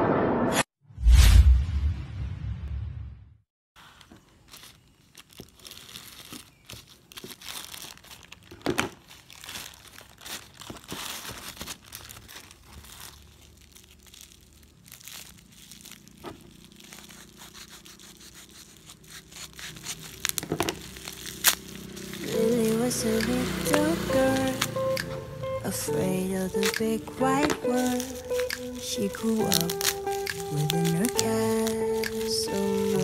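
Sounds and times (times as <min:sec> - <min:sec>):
plastic bags and bubble wrap crinkling: 0:03.8 - 0:33.0.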